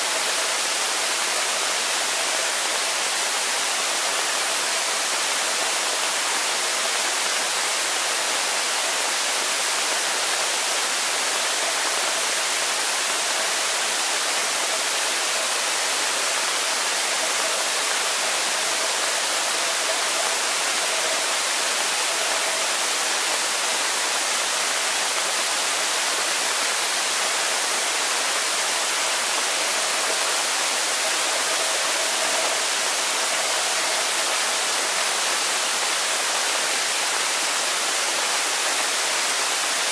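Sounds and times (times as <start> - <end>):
steady underwater hiss: 0.0 - 39.9.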